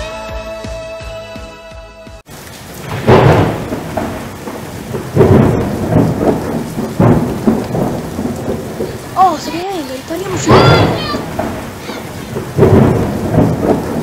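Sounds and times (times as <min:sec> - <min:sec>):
steady rain: 0:02.2 - 0:14.0
thunder rolling: 0:02.3 - 0:14.0.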